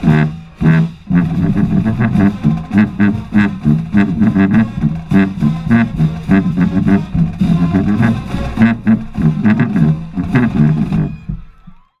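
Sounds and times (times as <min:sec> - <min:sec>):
low sousaphone line: 0:00.0 - 0:11.4
drum hits: 0:00.0 - 0:11.7
marching band playing: 0:00.0 - 0:11.9.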